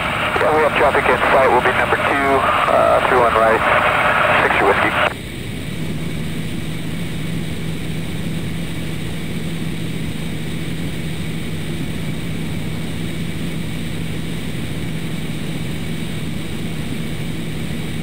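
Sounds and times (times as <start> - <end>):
aircraft engine and propeller hum: 0.0 - 18.0.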